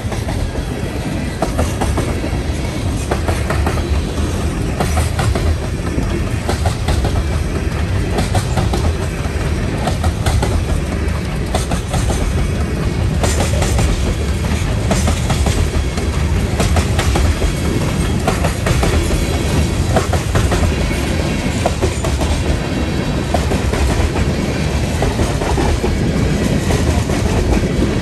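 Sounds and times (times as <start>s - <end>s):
steel wheels rumbling on rail: 0.0s - 28.0s
wheels clicking over rail joints: 0.0s - 28.0s.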